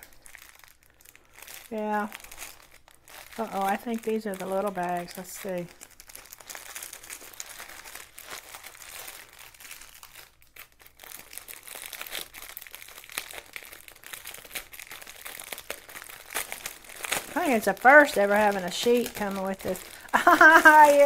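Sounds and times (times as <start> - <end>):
plastic packet crinkling: 0.0 - 21.0.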